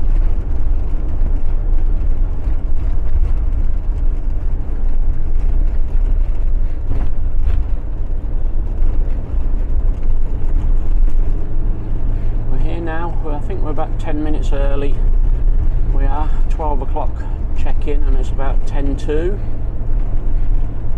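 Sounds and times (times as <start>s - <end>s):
engine and tyre rumble: 0.0s - 20.9s.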